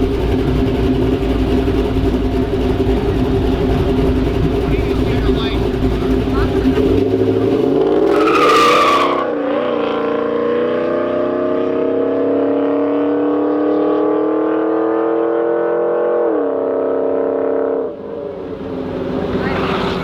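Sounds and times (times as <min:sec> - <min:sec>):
drag race car engine accelerating: 0:00.0 - 0:20.0.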